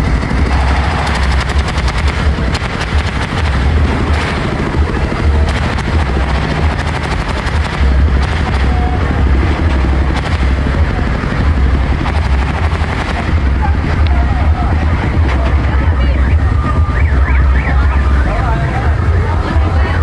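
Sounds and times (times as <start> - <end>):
engine running with pulsing beat: 0.0 - 20.0.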